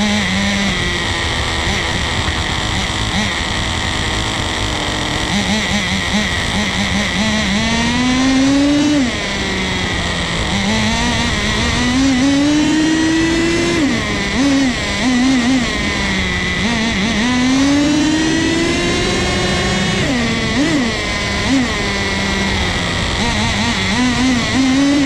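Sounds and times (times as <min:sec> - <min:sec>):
rc car engine revving: 0:00.0 - 0:25.0.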